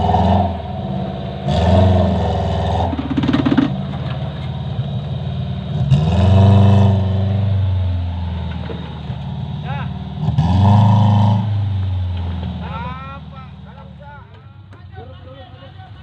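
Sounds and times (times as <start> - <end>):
off-road vehicle engine revving: 0.0 - 14.8.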